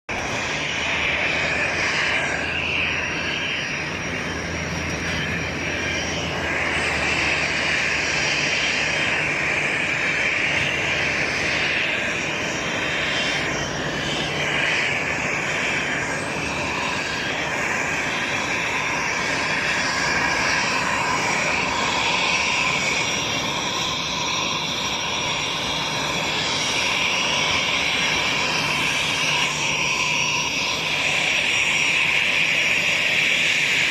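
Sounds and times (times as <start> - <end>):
airplane engines running: 0.0 - 33.9.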